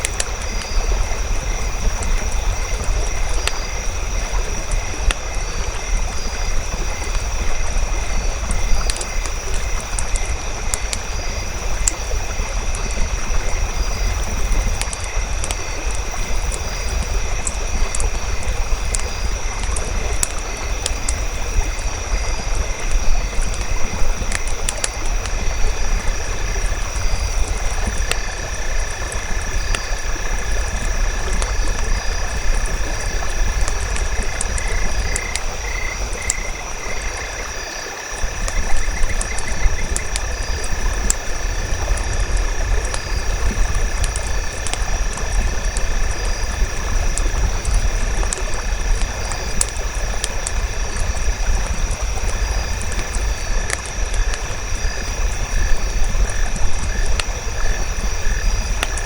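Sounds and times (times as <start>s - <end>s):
campfire crackling and popping: 0.0s - 59.0s
high drone of night insects: 0.0s - 59.0s.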